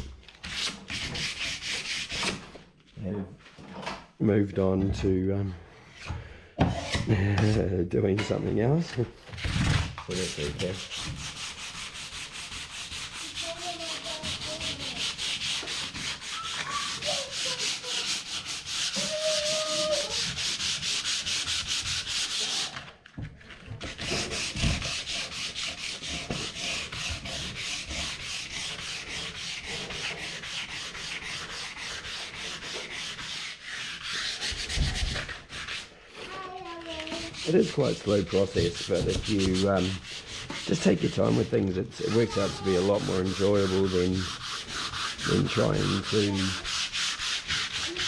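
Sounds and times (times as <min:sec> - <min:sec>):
sandpaper rubbing on wood: 0:00.5 - 0:02.4, 0:10.1 - 0:22.9, 0:23.8 - 0:48.0.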